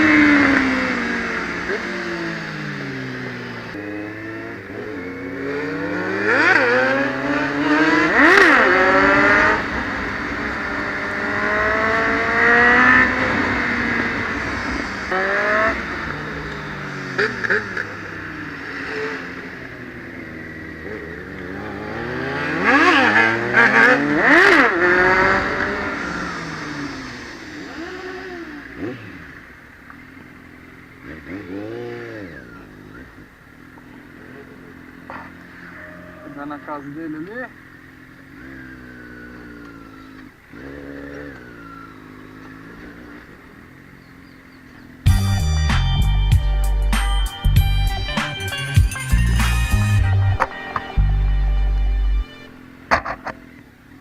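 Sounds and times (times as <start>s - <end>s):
motorcycle engine revving: 0.0s - 54.0s
vehicles passing: 0.0s - 54.0s.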